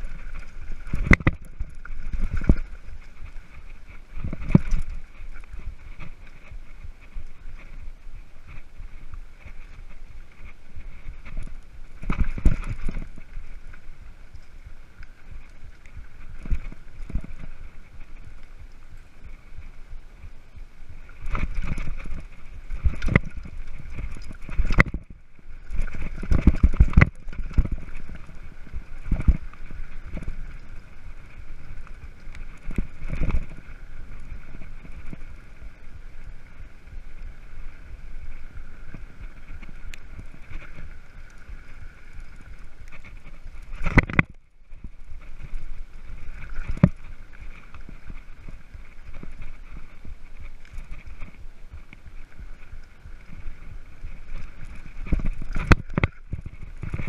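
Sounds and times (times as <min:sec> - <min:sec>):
bike tyres rolling on dirt: 0:00.0 - 0:57.0.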